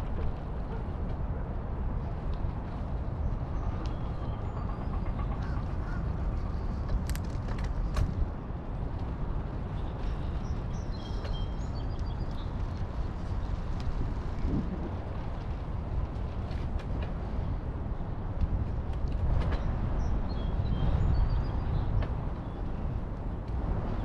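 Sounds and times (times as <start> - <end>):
bicycle rolling rumble: 0.0 - 24.0
low wind: 0.0 - 24.0.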